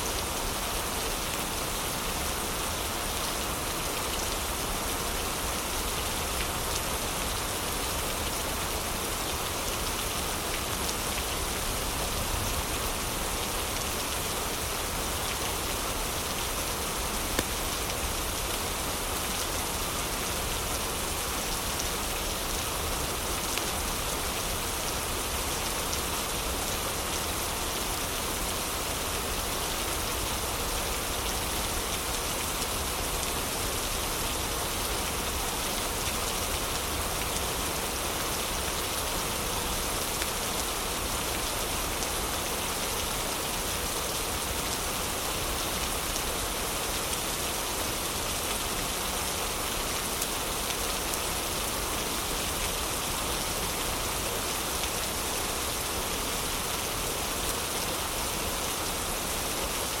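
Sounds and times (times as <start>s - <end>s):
heavy rain falling: 0.0s - 60.0s.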